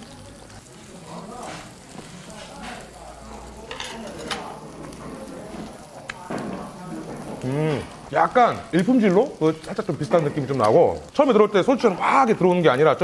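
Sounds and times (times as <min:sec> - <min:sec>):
close chewing: 0:00.0 - 0:11.2
pork sizzling on grill: 0:00.0 - 0:13.0.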